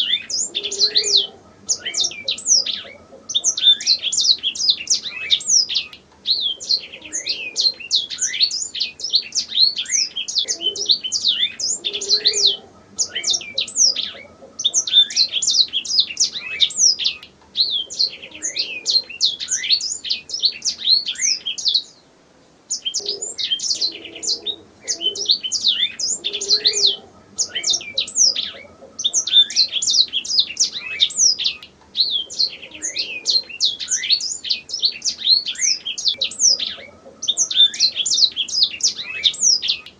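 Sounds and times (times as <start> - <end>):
canary singing: 0.0 - 22.0, 22.7 - 39.9.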